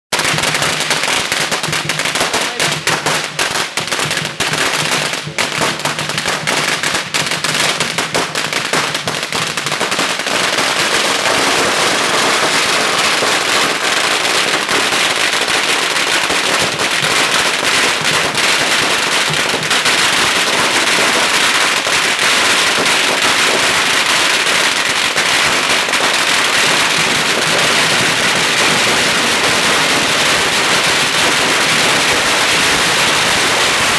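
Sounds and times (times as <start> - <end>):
firecrackers banging and crackling: 0.1 - 33.9.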